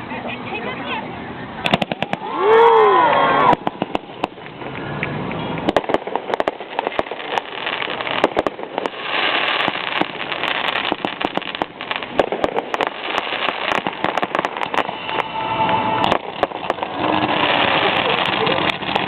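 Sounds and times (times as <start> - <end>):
fireworks hissing rush: 1.3 - 19.0
fireworks popping and snapping: 1.6 - 19.0.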